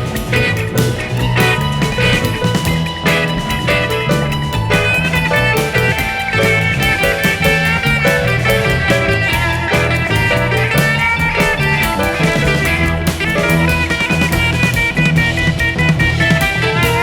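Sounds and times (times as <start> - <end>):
upbeat guitar music: 0.0 - 17.0.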